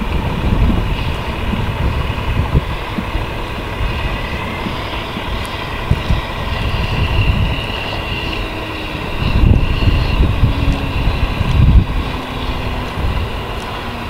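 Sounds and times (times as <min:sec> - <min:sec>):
vehicle engine running: 0:00.0 - 0:14.0
wind rumble on microphone: 0:00.0 - 0:14.0.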